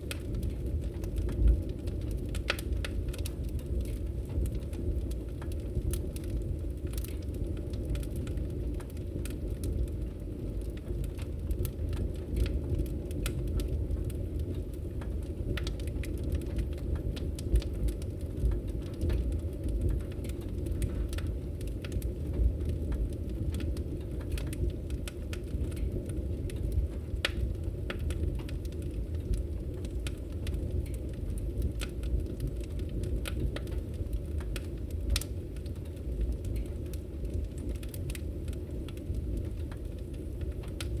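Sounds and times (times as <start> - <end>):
fire crackling and popping: 0.0 - 41.0
low rumble of burning: 0.0 - 41.0.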